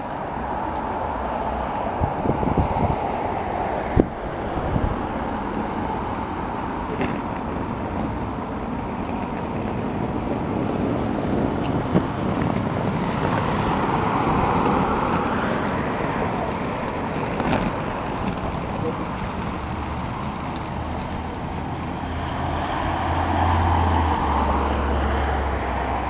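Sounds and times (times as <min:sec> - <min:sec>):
road traffic: 0:00.0 - 0:26.0
wind rumble on microphone: 0:00.2 - 0:26.0.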